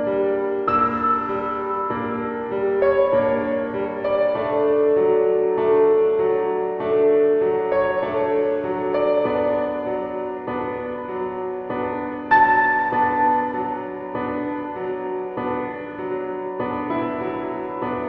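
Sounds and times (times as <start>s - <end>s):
slow piano-like keyboard music: 0.0s - 18.0s.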